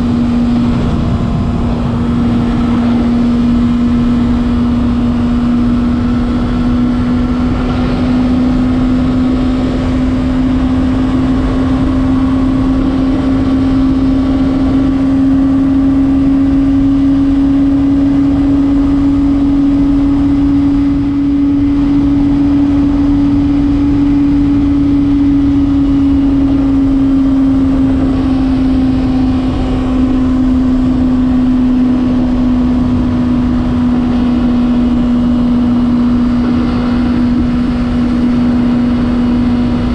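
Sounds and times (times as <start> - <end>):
motorcycle engine at high speed: 0.0 - 39.9.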